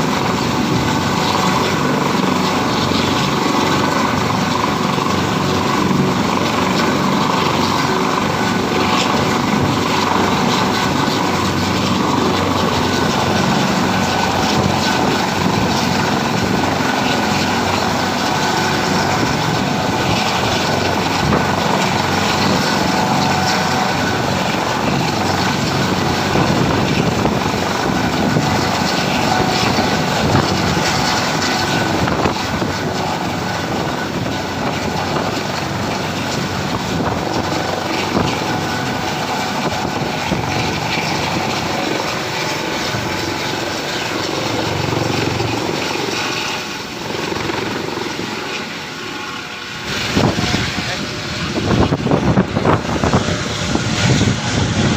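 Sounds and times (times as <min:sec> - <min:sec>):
helicopter engine and rotor: 0:00.0 - 0:54.9.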